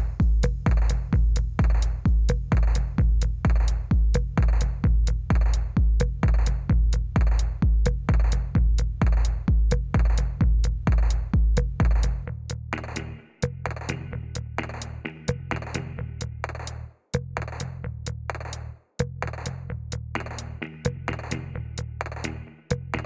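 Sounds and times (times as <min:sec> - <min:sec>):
music with heavy electronic beat: 0:00.0 - 0:12.2, 0:12.8 - 0:16.8, 0:20.2 - 0:23.0.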